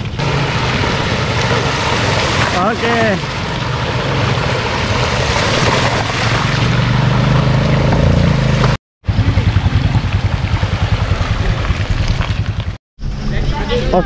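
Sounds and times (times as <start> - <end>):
bike tyres rumbling on trail: 0.0 - 12.8.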